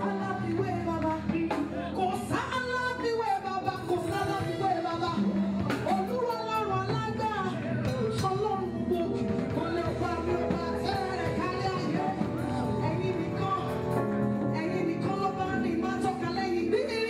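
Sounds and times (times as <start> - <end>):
live band with keyboards: 0.0 - 17.0
woman singing gospel into microphone: 0.0 - 17.0.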